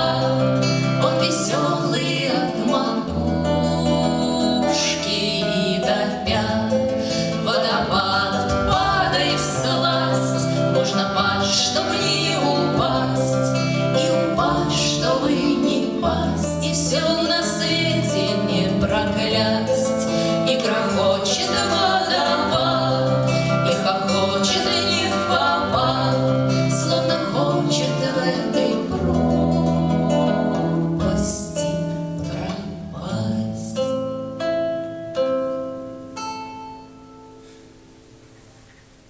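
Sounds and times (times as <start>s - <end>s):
women singing: 0.0s - 34.0s
acoustic guitar: 0.0s - 39.0s.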